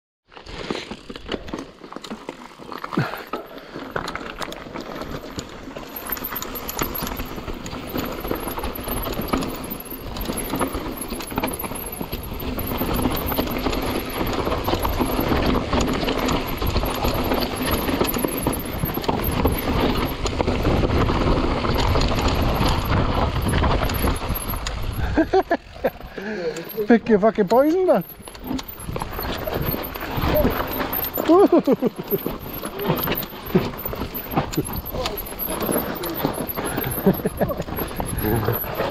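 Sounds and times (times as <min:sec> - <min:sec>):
bike tyres on dirt: 0:00.2 - 0:38.9
bike rattling over bumps: 0:00.3 - 0:38.9.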